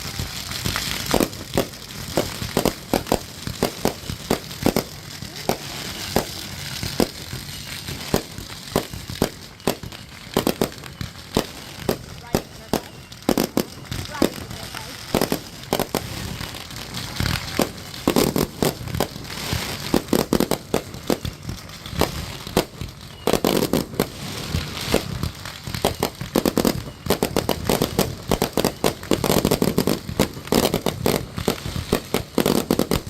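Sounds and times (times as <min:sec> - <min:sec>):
fireworks cracking and banging: 0:00.0 - 0:33.0.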